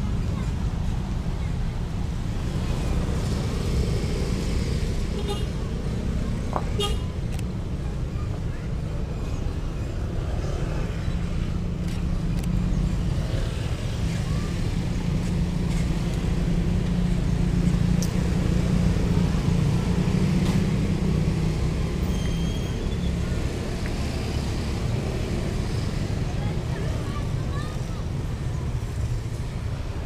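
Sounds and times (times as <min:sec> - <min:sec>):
motorcycle and car engines passing: 0:02.3 - 0:06.9, 0:10.4 - 0:30.0.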